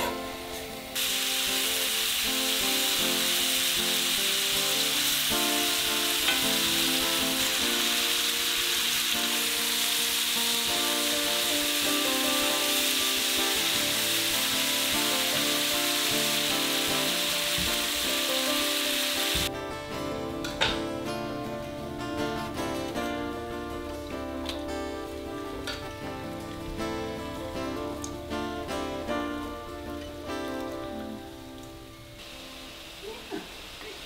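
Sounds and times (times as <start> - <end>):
fruit sizzling in a skillet: 0.0 - 19.5, 24.1 - 34.0
instrumental music: 0.0 - 33.2.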